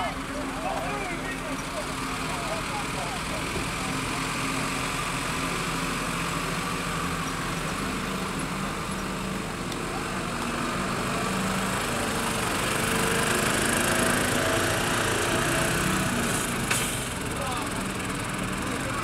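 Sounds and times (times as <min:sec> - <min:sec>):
diesel truck engine passing: 0:00.0 - 0:19.0.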